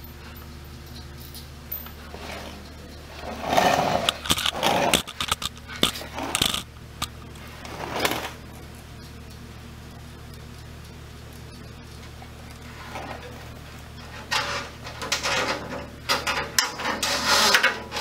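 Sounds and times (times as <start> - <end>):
steel cable scraping and rattling: 0.0 - 9.4, 10.8 - 18.0.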